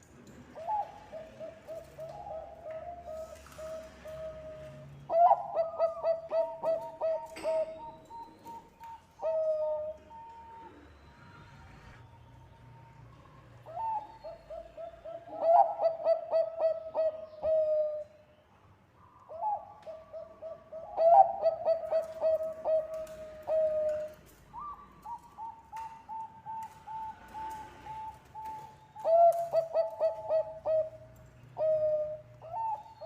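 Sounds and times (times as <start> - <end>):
dove cooing: 0.5 - 11.1, 13.6 - 18.1, 19.3 - 33.0.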